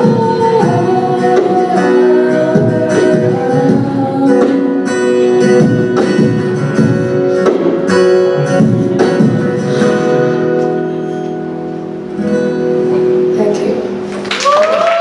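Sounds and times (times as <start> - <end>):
acoustic guitar strumming: 0.0 - 14.3.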